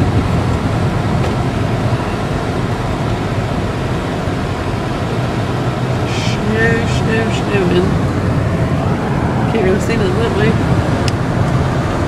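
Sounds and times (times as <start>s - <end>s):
car engine: 0.0s - 12.0s
tyres on the road: 0.0s - 12.0s.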